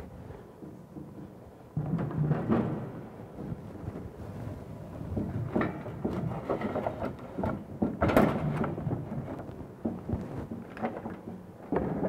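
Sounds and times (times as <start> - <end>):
pipework knocks and scrapes: 0.3 - 12.0.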